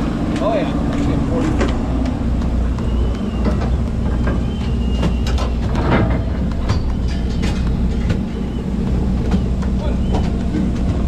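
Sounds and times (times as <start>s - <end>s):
boat engine droning: 0.0s - 11.0s
gear clanking on deck: 0.0s - 11.0s.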